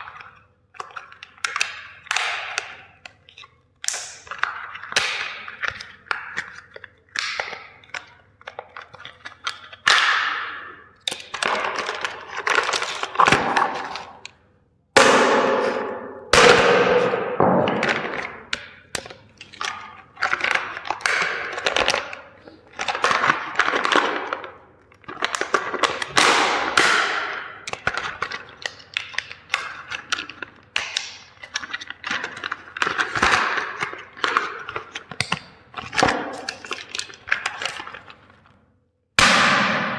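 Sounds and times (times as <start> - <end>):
plastic toys cracking and crunching: 0.0 - 14.4, 17.8 - 38.6.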